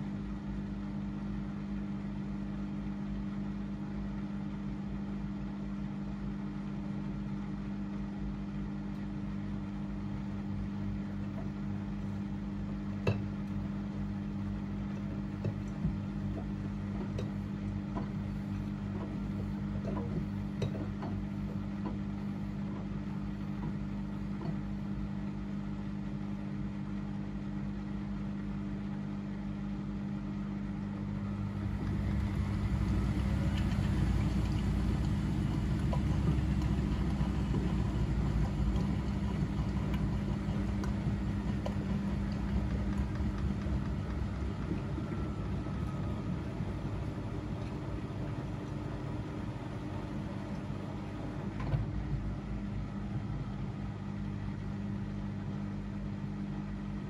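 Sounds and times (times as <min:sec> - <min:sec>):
washing machine hum: 0:00.0 - 0:57.0
washing machine low rumble: 0:00.0 - 0:57.0.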